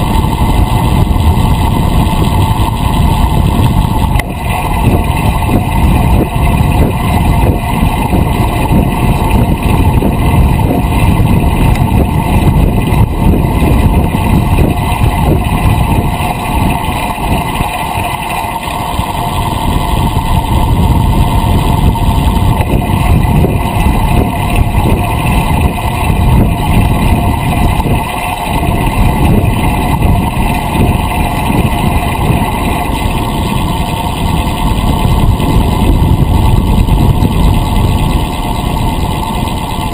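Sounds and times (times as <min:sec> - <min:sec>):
bicycle tyre noise on asphalt: 0:00.0 - 0:39.9
wind rushing over microphone: 0:00.0 - 0:39.9.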